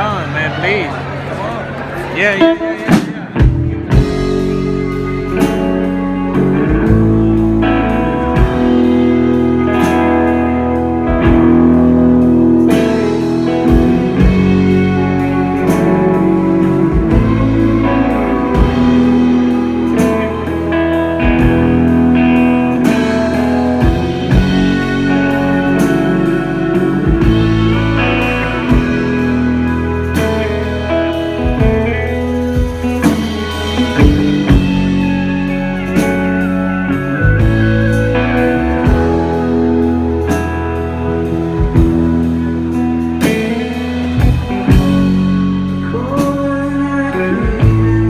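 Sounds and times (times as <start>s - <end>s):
electric guitars: 0.0s - 48.0s
pedal steel guitar long notes: 0.0s - 48.0s
drums slow steady beat: 2.4s - 48.0s.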